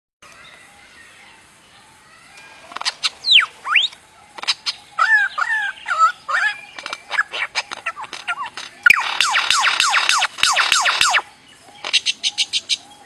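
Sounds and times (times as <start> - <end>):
songbird singing: 0.2 - 13.0.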